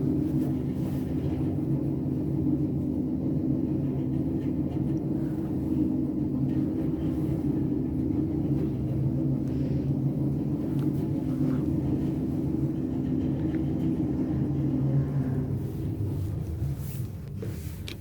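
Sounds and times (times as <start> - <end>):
elevator rumble and hum: 0.0 - 18.0.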